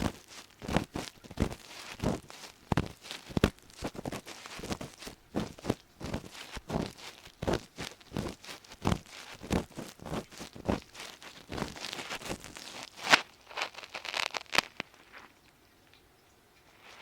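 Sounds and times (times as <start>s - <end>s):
ear pick scraping microphone: 0.0s - 14.4s.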